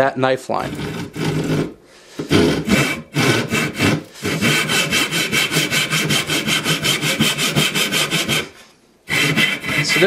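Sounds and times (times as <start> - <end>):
handsaw cutting wood: 0.6 - 10.0.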